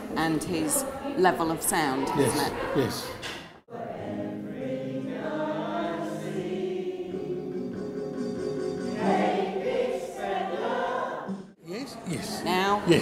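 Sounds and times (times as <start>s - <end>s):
choir singing: 2.0s - 13.0s.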